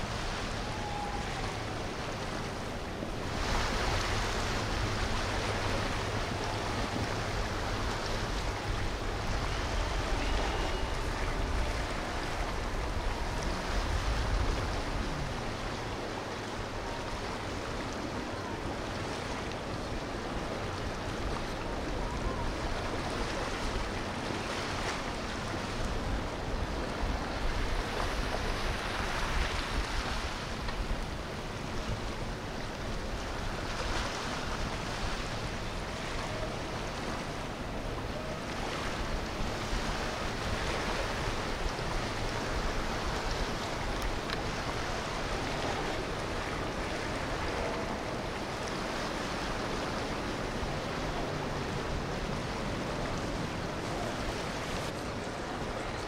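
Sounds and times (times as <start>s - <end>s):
faint boat engine drone: 0.0s - 56.0s
water sloshing from boat wakes: 0.0s - 56.0s
wind on microphone: 0.0s - 56.0s.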